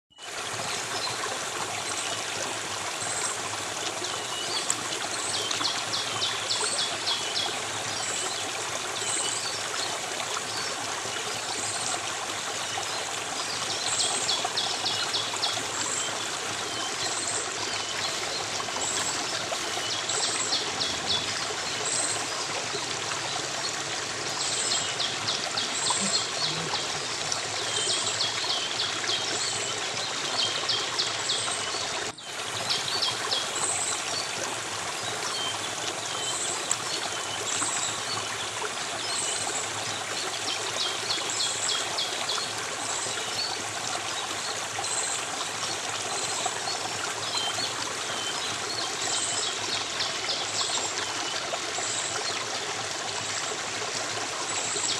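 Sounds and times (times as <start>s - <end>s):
stream of water flowing: 0.1s - 54.9s.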